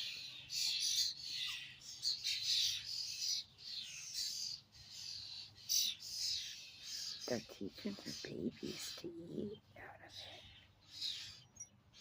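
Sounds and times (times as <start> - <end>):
flock of birds squawking: 0.0 - 12.0.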